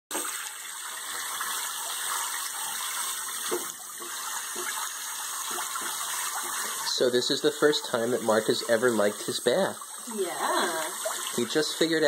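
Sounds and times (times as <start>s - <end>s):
faucet running into sink: 0.1s - 12.0s.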